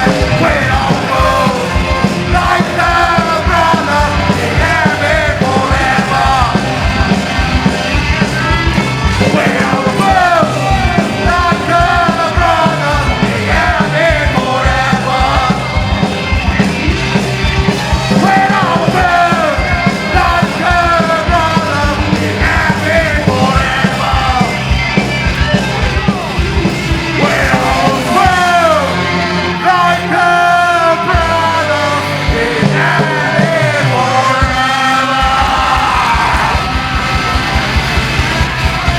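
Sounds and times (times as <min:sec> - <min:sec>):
punk rock band playing live: 0:00.0 - 0:38.9
shouted vocals: 0:00.0 - 0:38.9.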